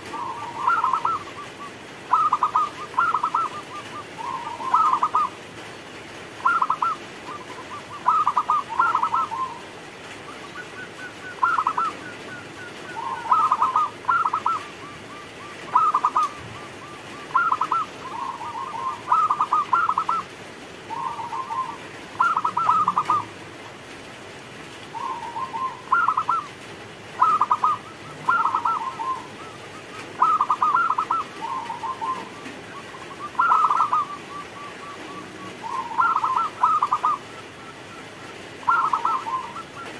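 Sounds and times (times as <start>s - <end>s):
dove cooing: 0.0s - 5.4s, 6.3s - 23.4s, 24.9s - 39.9s.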